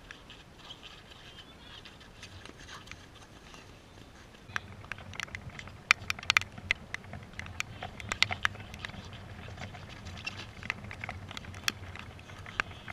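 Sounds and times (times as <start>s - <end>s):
wind rumble on microphone: 0.0s - 12.9s.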